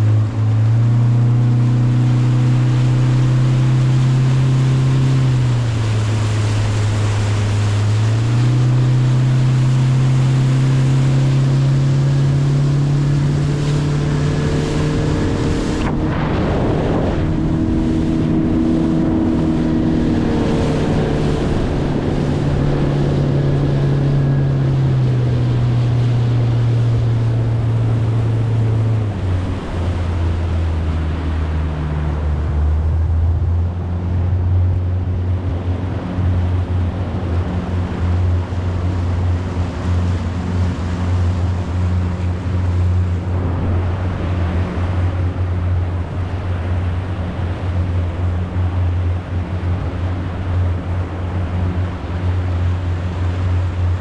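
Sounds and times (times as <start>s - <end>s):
motorboat engine running: 0.0s - 54.0s
wind noise on microphone: 0.0s - 54.0s.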